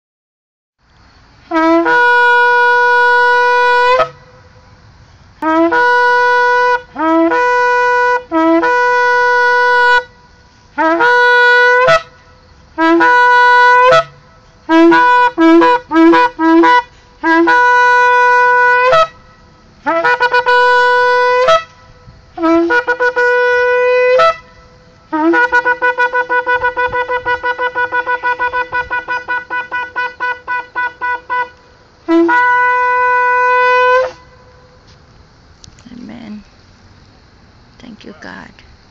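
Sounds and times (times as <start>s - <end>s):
horn blasts: 1.5s - 4.8s, 5.4s - 34.9s.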